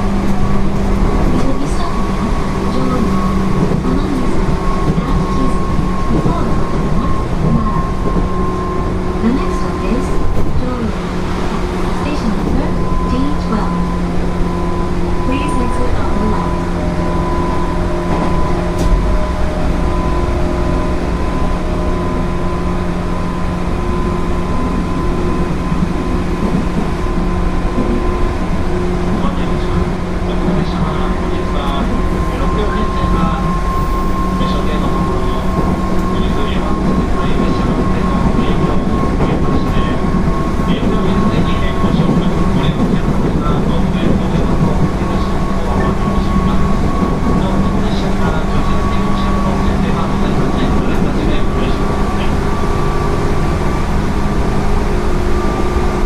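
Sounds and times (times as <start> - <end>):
steady humming tones: 0.0 - 56.0
train wheels rumbling on rail: 0.0 - 56.0.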